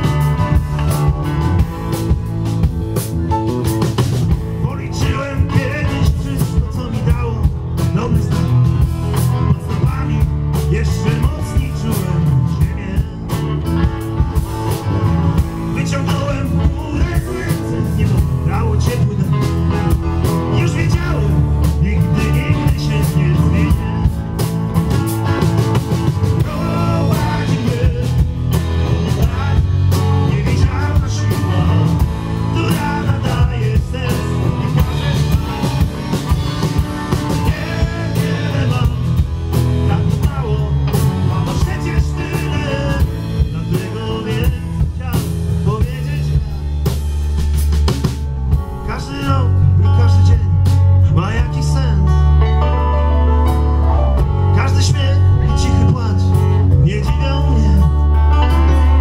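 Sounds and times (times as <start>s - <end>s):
bass guitar: 0.0s - 59.0s
drum kit: 0.0s - 59.0s
electric and acoustic guitars: 0.0s - 59.0s
keyboard: 0.0s - 59.0s.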